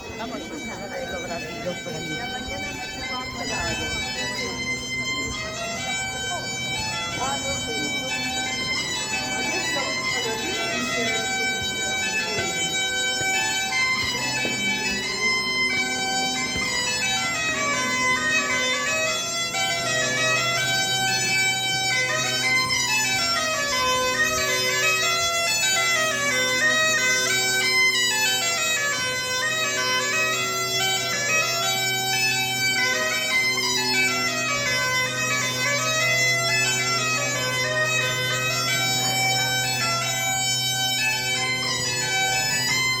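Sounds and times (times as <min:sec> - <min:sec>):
bagpipe drone: 0:00.0 - 0:43.0
bagpipe playing quick melody: 0:00.0 - 0:43.0.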